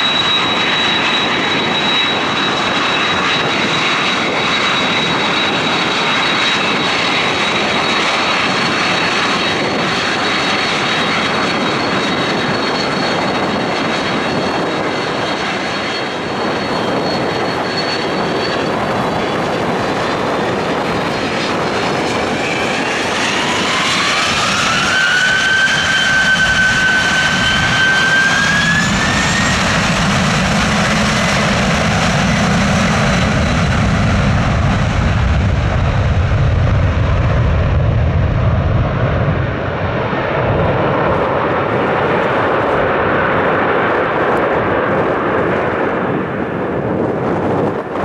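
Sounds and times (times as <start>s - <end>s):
jet engine roar: 0.0s - 48.0s
jet engine whine rising: 0.0s - 48.0s.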